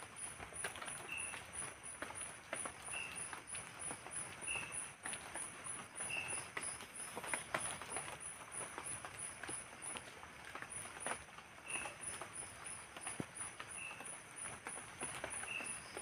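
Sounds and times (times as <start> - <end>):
drizzle dripping on tarp: 0.0 - 16.0
high insect chirp: 0.2 - 16.0.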